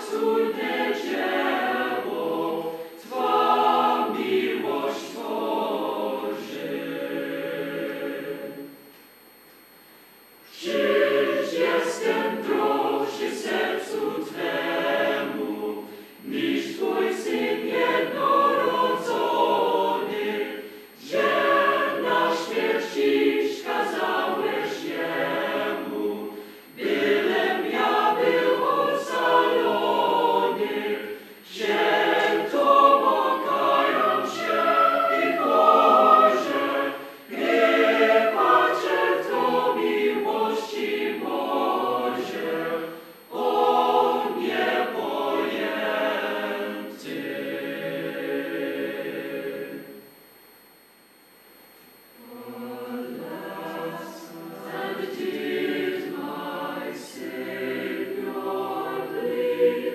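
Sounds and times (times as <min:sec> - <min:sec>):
choir singing a cappella: 0:00.0 - 0:08.9, 0:10.4 - 0:50.2, 0:52.2 - 0:59.9.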